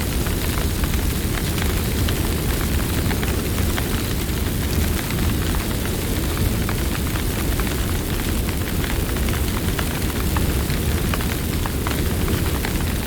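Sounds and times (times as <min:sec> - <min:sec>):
burning wood crackling and popping: 0:00.0 - 0:13.0
campfire flames rumbling: 0:00.0 - 0:13.0.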